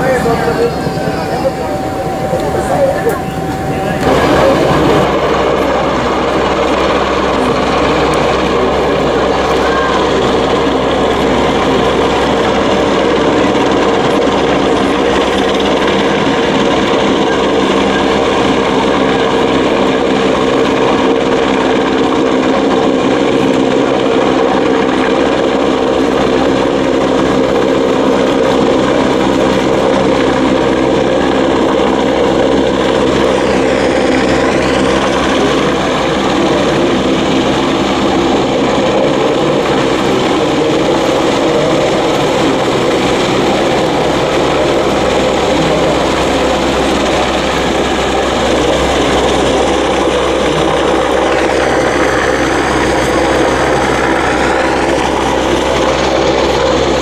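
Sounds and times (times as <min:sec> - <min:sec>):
helicopter rotor noise: 0:00.0 - 0:57.0
high turbine whine: 0:00.0 - 0:57.0.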